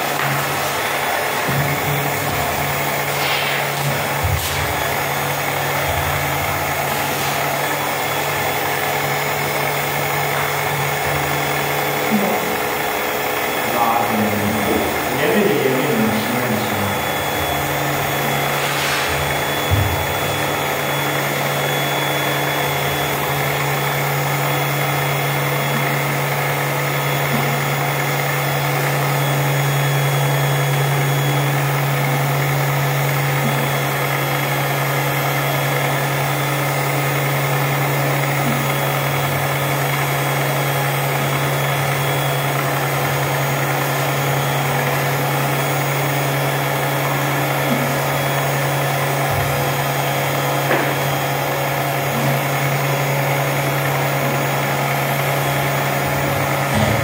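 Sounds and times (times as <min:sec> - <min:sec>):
electric sander motor hum: 0:00.0 - 0:57.0.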